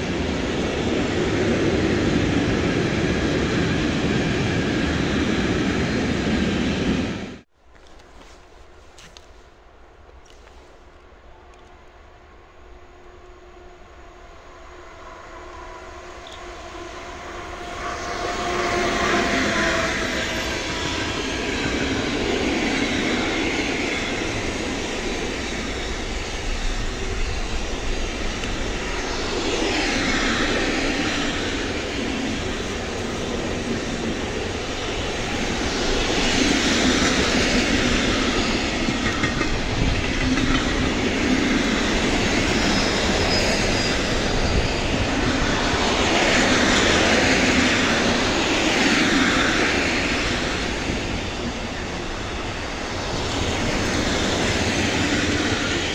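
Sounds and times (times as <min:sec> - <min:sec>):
freight train wheels on rails: 0:00.0 - 0:55.9.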